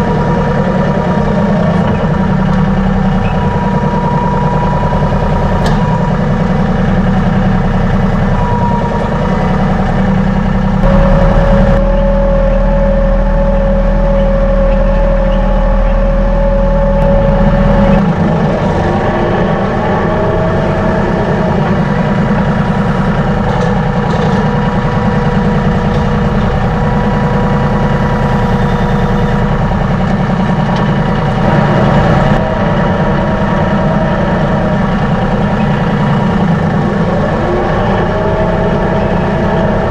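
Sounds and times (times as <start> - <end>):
truck engine and road noise: 0.0 - 39.9
whining tone: 0.0 - 39.9.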